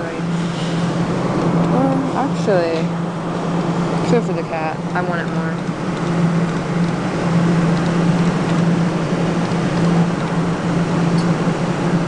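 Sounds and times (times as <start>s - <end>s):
claw machine humming and whirring: 0.0s - 12.0s.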